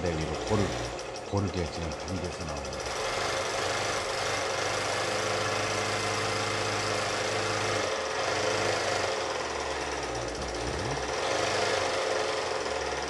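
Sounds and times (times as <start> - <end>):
sewing machine mechanism rattle: 0.0 - 13.0
sewing machine motor hum: 0.0 - 13.0.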